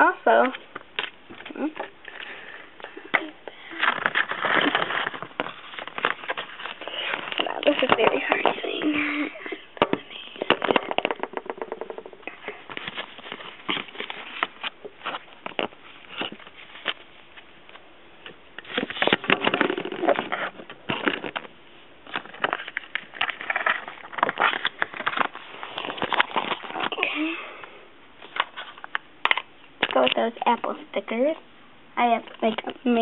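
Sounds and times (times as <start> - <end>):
packaging rustling and crinkling: 0.3 - 27.1.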